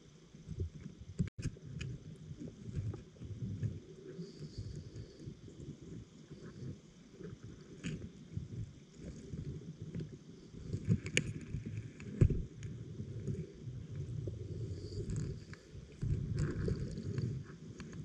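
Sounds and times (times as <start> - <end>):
underwater rumble of moving water: 0.0 - 18.0.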